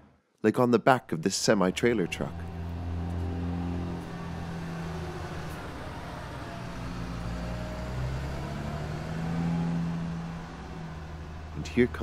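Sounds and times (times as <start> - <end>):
tyres on dirt road: 1.1 - 12.0
truck diesel engine: 1.2 - 12.0.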